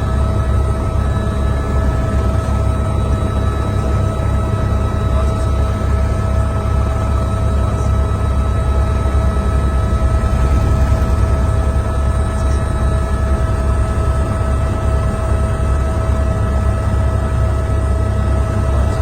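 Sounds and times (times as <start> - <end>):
helicopter flying: 0.0 - 19.0.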